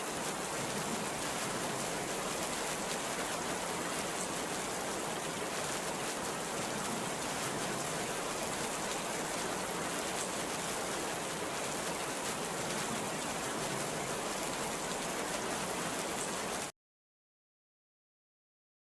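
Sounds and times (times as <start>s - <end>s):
heavy rain pouring: 0.0s - 16.7s.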